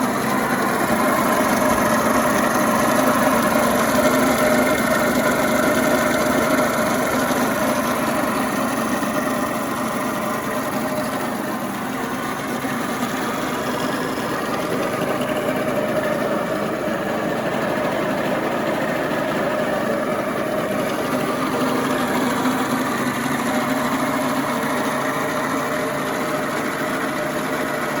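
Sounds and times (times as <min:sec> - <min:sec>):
mechanical knocking inside engine: 0:00.0 - 0:28.0
two-stroke engine idling: 0:00.0 - 0:28.0.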